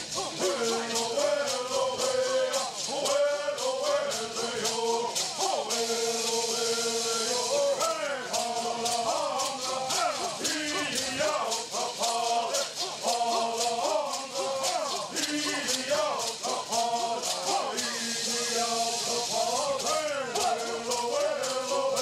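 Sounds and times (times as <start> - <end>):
gourd rattles shaking: 0.0 - 22.0
men singing in unison: 0.0 - 22.0.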